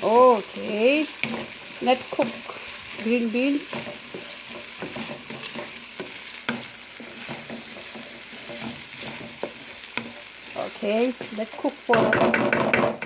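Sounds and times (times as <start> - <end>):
food sizzling in a pan: 0.0 - 13.0
utensil scraping and clicking on pan: 1.1 - 13.0.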